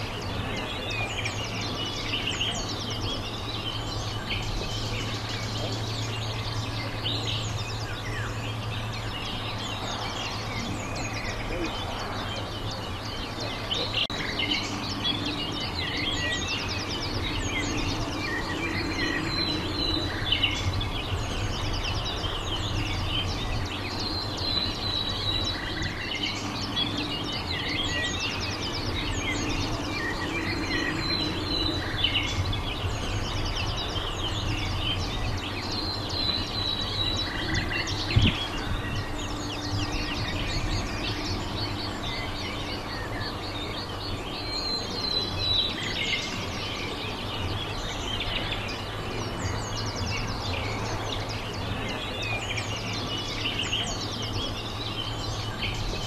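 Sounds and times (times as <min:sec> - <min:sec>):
low outdoor background noise: 0:00.0 - 0:56.0
small birds chirping and trilling: 0:00.0 - 0:56.0.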